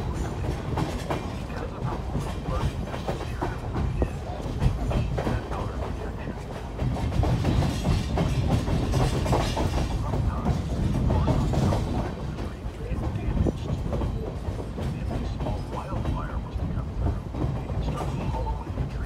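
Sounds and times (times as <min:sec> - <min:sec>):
train rumbling on track: 0:00.0 - 0:19.0
train wheels clicking and knocking: 0:00.0 - 0:19.0.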